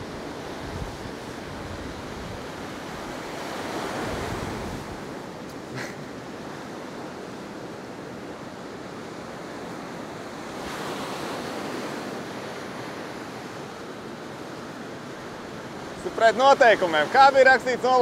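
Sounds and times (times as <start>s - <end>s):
waves washing in: 0.0s - 18.0s
wind: 0.0s - 18.0s.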